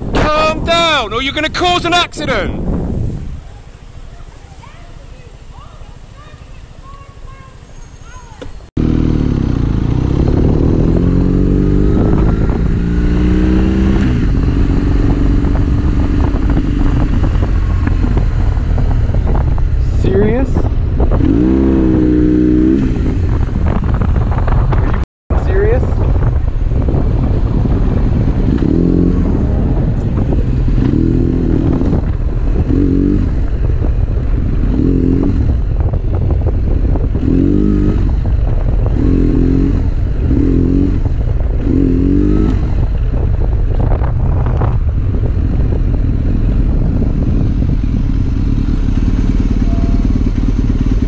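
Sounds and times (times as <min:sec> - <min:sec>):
motorcycle engine running: 0:08.5 - 0:25.0, 0:25.8 - 0:51.0.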